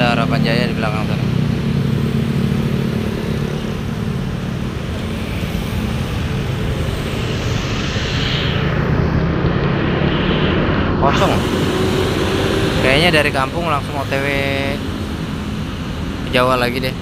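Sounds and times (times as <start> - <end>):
coach diesel engine passing: 0.0 - 7.7, 10.8 - 17.0
motorcycle engines: 0.0 - 17.0.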